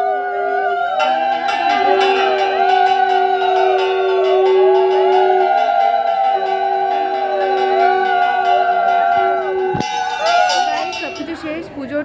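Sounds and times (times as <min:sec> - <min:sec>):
conch shells blown: 0:00.0 - 0:11.4
women ululating: 0:00.0 - 0:11.4.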